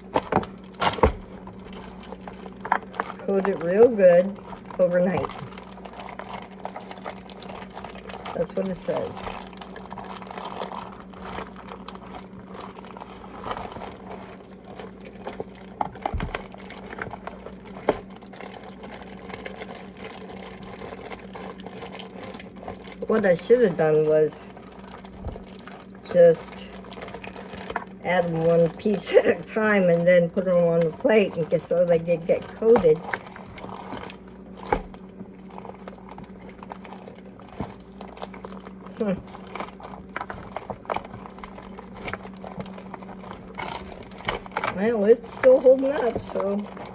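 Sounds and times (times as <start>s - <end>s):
plastic bag crinkling: 0.0s - 46.9s.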